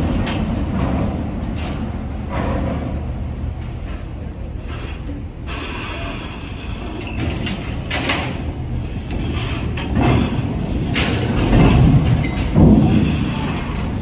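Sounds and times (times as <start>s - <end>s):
heavy vehicle engines rumbling: 0.0s - 14.0s.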